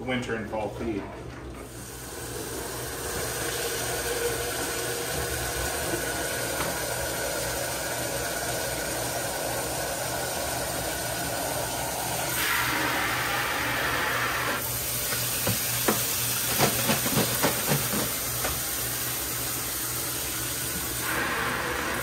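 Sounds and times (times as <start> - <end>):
water running into a pitcher: 1.2 - 22.0.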